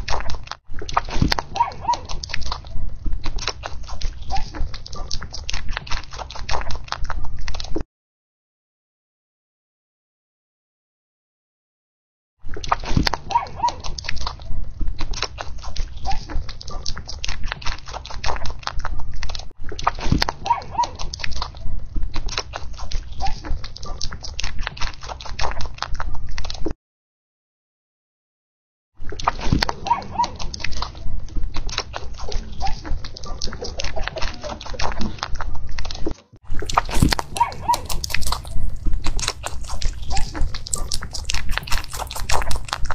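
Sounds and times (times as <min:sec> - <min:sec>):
animal chewing crunchy food: 0:00.0 - 0:07.8, 0:12.5 - 0:26.8, 0:29.0 - 0:42.9.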